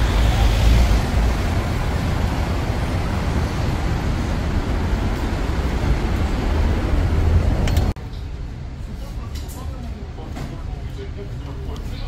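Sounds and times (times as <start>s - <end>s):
steady rumbling noise: 0.0s - 12.0s.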